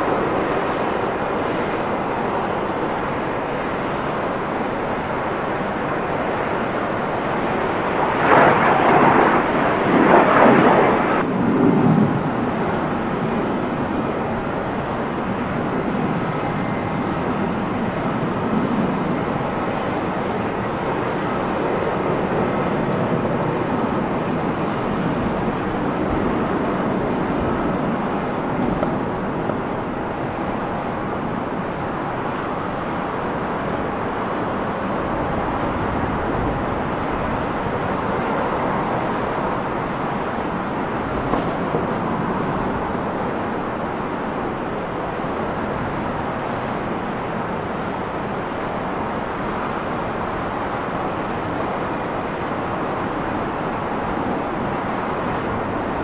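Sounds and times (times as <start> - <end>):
jet engines rushing: 0.0 - 56.0.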